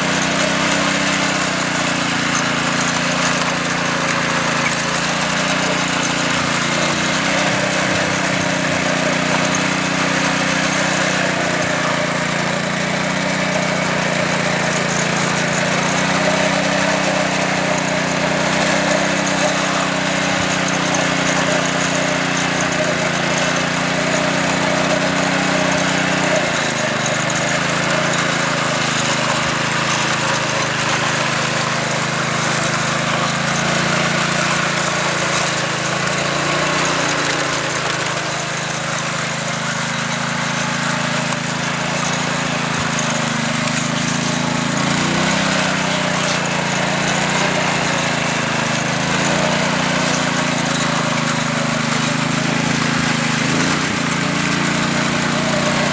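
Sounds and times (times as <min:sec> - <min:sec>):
small petrol engine droning: 0:00.0 - 0:55.9.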